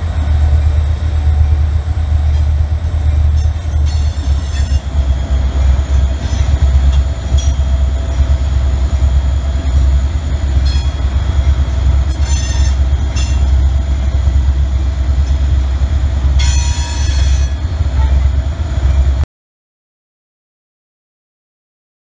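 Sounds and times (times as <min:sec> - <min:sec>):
train wheels rumbling on rail: 0:00.0 - 0:19.2.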